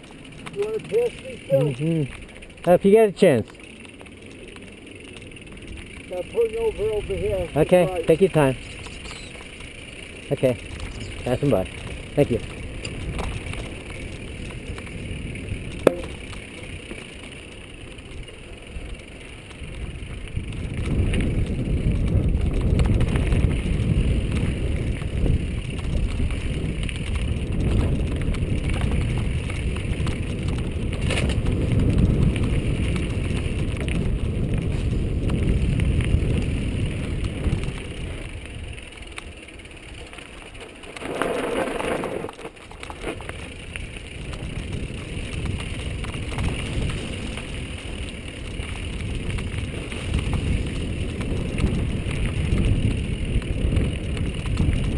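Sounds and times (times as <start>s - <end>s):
bike tyres and frame rattling: 0.0s - 54.9s
wind rumbling on microphone: 0.0s - 54.9s.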